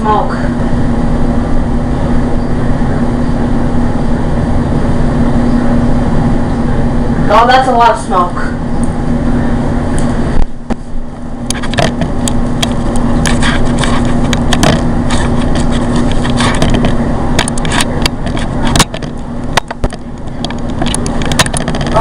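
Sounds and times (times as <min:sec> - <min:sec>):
microwave oven humming: 0:00.0 - 0:22.0.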